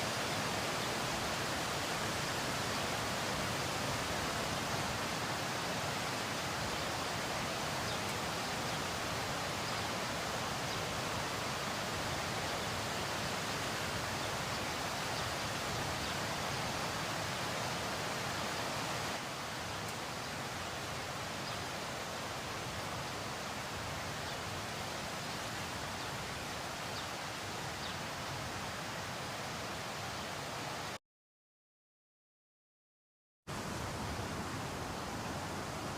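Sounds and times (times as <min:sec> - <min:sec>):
rushing water: 0:00.0 - 0:31.0, 0:33.5 - 0:35.9.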